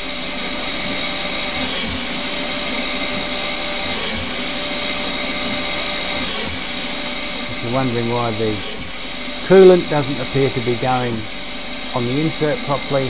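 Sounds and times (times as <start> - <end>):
lathe cutting metal: 0.0 - 13.0.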